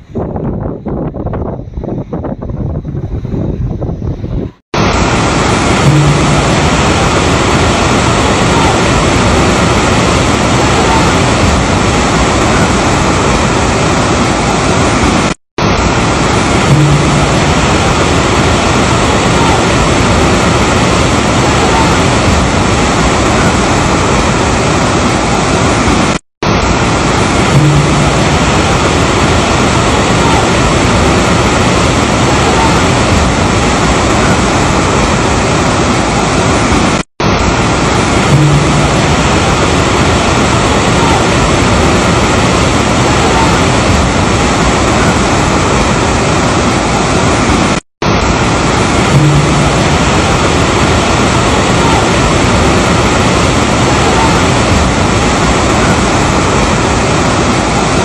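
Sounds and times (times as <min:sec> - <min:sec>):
flooded river rushing: 0:04.8 - 0:58.0.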